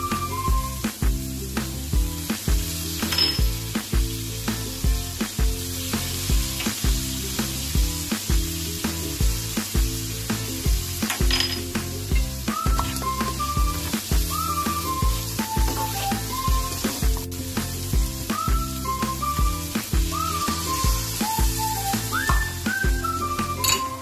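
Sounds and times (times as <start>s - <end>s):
background music with beat: 0.0s - 24.0s
meat sizzling in a frying pan: 0.0s - 24.0s.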